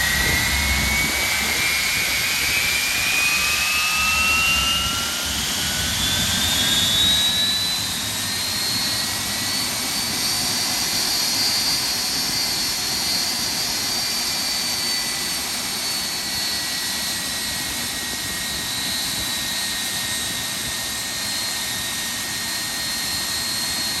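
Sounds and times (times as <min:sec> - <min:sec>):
jet engine high whine: 0:00.0 - 0:24.0
jet engine roar: 0:00.0 - 0:24.0.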